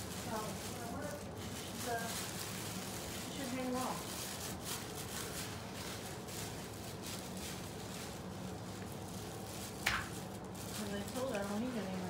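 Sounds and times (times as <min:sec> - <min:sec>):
faint soft rustles: 0:00.0 - 0:12.0.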